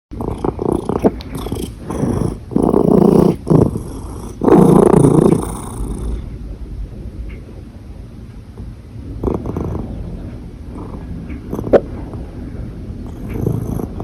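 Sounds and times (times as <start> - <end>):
cat purring: 0.1 - 7.6, 9.0 - 14.0.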